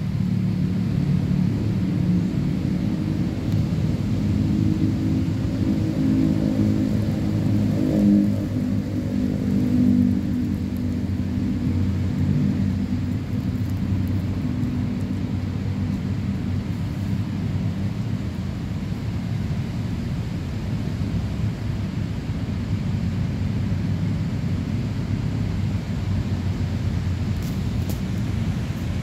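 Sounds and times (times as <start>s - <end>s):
low rumbling hum: 0.0s - 29.0s.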